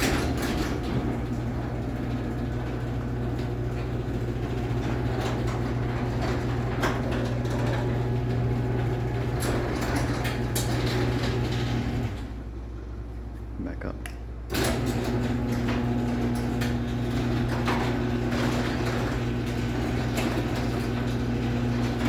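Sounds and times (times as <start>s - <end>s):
garage door opener motor hum: 0.0s - 13.2s, 14.4s - 22.0s.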